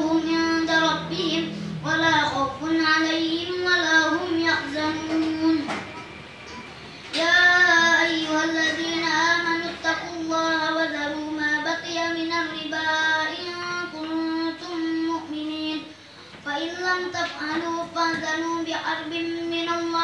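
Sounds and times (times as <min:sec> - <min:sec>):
person chanting recitation: 0:00.0 - 0:05.9, 0:07.1 - 0:20.0.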